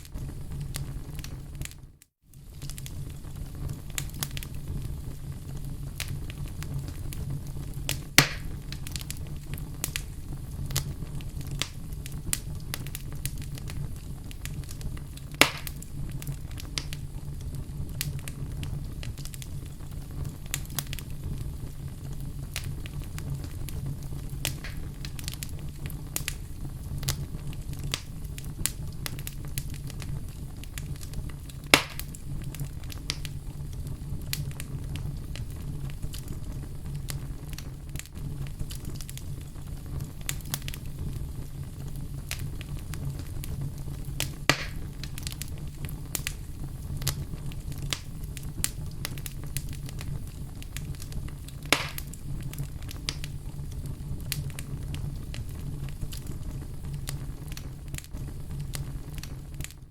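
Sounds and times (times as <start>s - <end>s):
loud fire pops: 0.0s - 59.9s
wood fire crackling: 0.0s - 59.9s.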